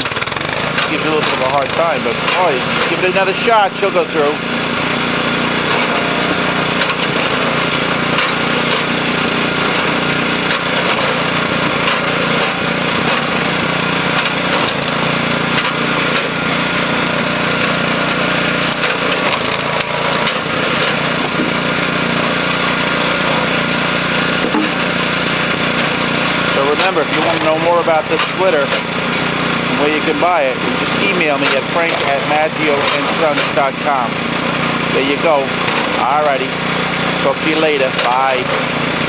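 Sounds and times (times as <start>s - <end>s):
small gasoline engine running: 0.0s - 39.0s.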